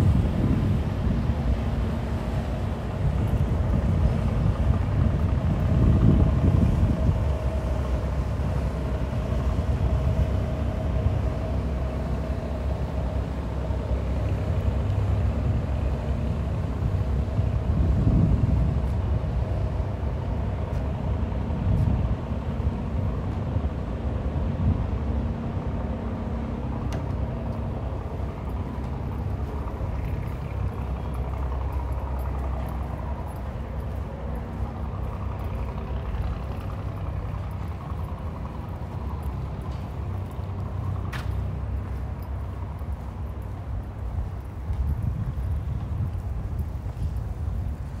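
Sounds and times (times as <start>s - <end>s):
engines and traffic rumble: 0.0s - 48.0s.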